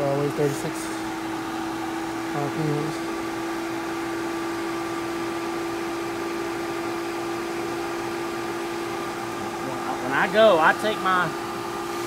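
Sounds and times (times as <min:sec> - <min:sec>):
pool pump motor humming: 0:00.0 - 0:12.0.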